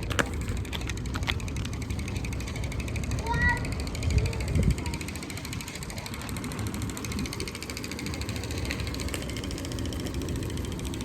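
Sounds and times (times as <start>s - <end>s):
freewheel hub ticking: 0.0s - 11.0s
tyres rumbling: 0.0s - 11.0s
wind on microphone: 2.0s - 11.0s.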